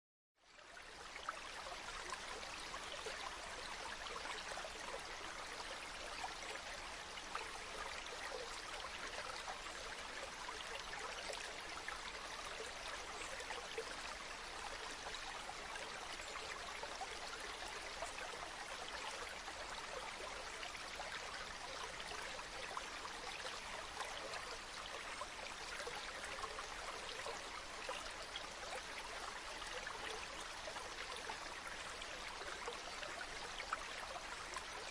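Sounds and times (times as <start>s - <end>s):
stream running over rocks: 0.5s - 34.9s.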